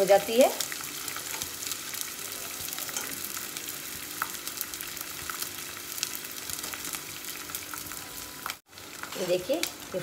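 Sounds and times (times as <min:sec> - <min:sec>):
frying sizzle with crackles: 0:00.0 - 0:10.0.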